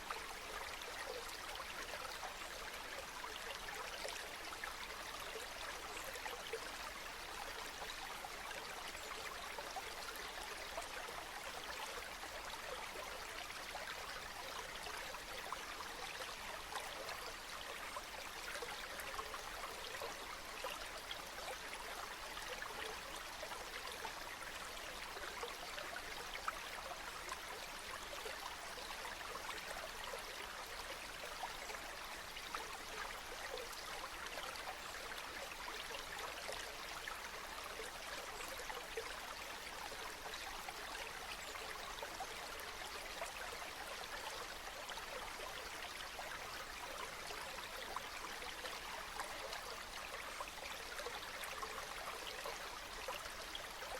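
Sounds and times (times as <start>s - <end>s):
stream babbling over stones: 0.0s - 53.9s.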